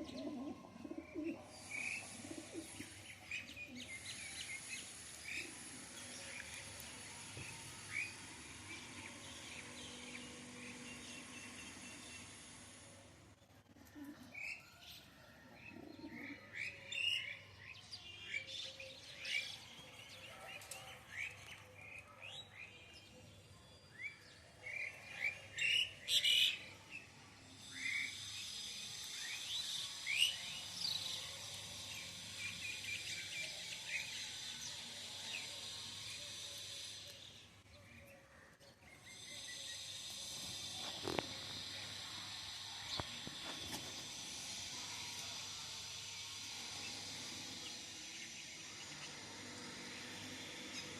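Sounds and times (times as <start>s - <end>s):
steady high-pitched hiss: 0.0s - 14.6s, 15.4s - 50.9s.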